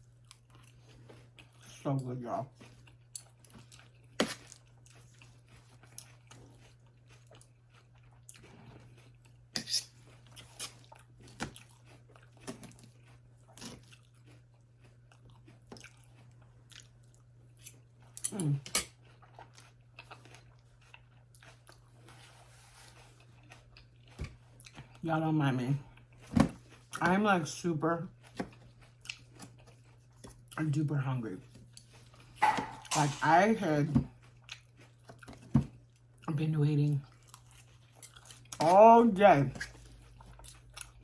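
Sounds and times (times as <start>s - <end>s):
person chewing food: 0.0s - 25.0s, 25.6s - 41.0s.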